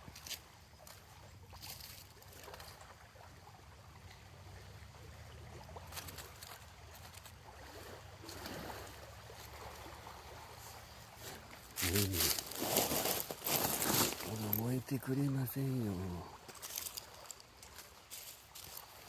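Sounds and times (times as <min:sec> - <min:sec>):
gently moving water: 0:00.0 - 0:19.0.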